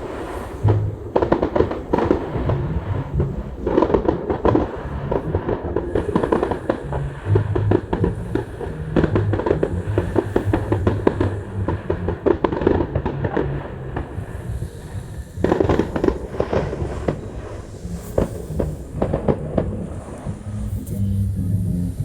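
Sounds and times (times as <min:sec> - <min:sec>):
fireworks bangs and crackles: 0:00.0 - 0:20.7.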